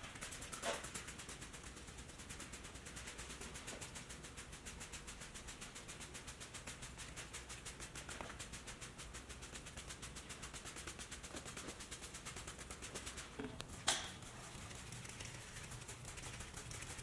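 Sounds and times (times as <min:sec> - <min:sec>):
spray bottle spritzing: 0:00.0 - 0:17.0.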